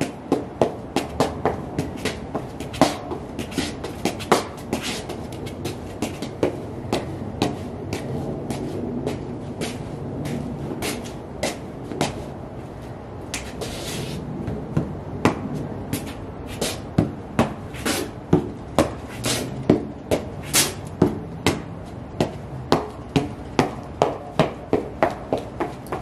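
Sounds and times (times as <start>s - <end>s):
boots tapping on concrete: 0.0s - 12.4s, 13.3s - 26.0s.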